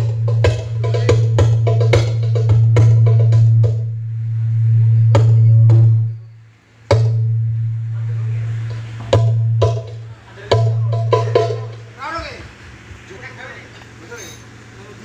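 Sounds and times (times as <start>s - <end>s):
loud percussion strikes: 0.0s - 13.1s
deep bass hum: 0.0s - 13.4s.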